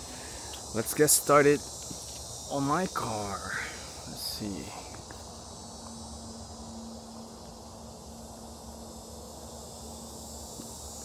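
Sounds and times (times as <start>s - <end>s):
faint steady hum: 0.0s - 11.0s
insects trilling: 0.0s - 11.0s.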